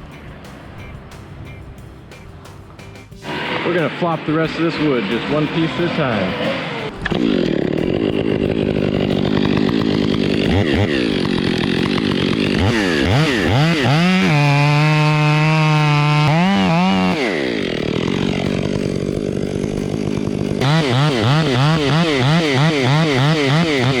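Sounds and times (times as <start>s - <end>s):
chainsaw cutting wood: 3.2s - 24.0s.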